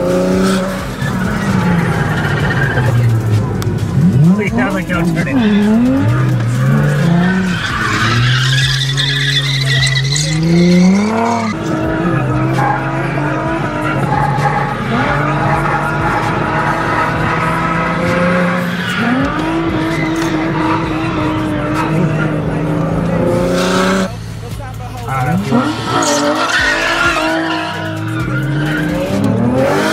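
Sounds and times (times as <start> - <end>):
tyres squealing: 0.0 - 24.3, 25.3 - 29.9
car engine revving: 0.0 - 29.9.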